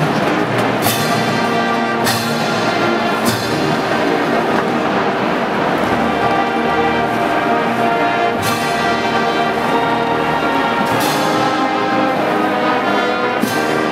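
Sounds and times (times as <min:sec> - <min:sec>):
brass band playing held chords: 0:00.0 - 0:13.9.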